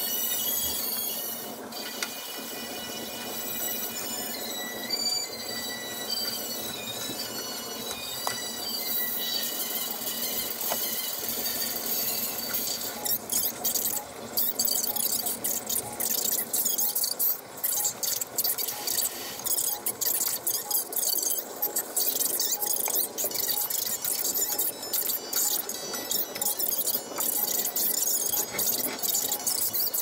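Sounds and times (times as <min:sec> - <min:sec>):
porridge bubbling in pot: 0:00.0 - 0:30.0.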